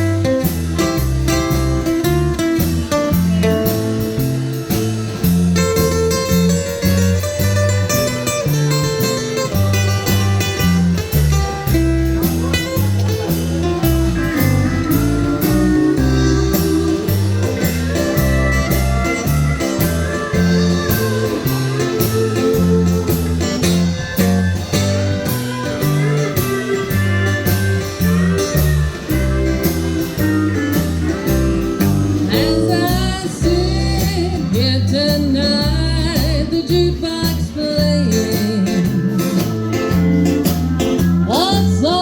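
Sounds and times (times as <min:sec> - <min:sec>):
country band playing: 0:00.0 - 0:42.0
lead guitar melody: 0:00.0 - 0:42.0.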